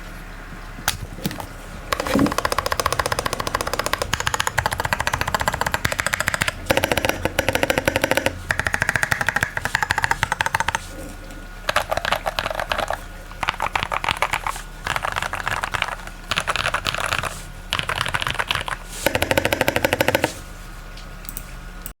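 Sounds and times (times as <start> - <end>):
mechanical keyboard typing: 1.9 - 10.9, 11.7 - 20.4.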